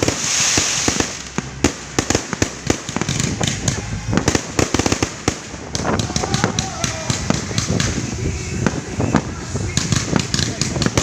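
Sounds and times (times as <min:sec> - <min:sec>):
fireworks bangs and pops: 0:00.0 - 0:11.0
fireworks hissing crackle: 0:00.0 - 0:11.0.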